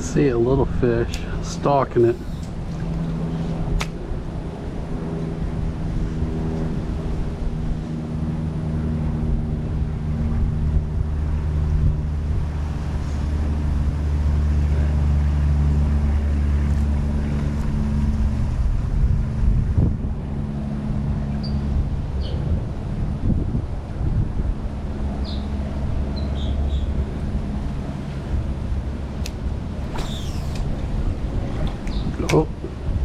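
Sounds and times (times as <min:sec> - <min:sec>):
boat motor running: 0:00.0 - 0:33.0
wind buffeting microphone: 0:00.0 - 0:33.0.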